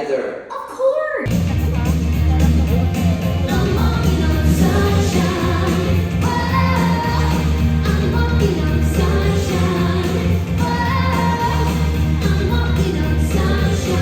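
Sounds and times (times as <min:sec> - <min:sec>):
pop song through sound system: 0:00.0 - 0:14.0.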